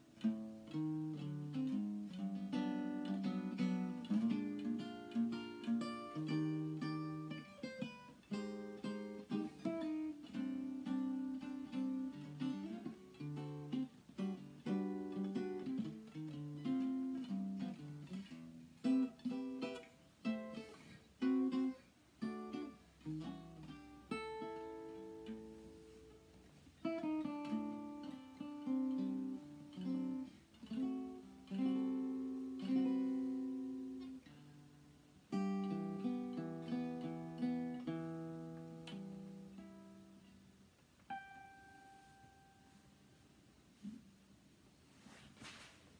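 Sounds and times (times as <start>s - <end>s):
solo guitar ballad: 0.0s - 43.0s.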